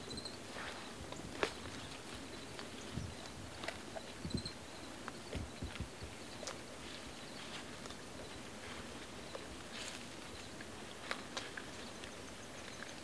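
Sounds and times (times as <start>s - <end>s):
footsteps in dry grass: 0.4s - 4.2s, 4.9s - 12.2s
deer chewing plants: 0.5s - 4.2s, 4.9s - 13.0s.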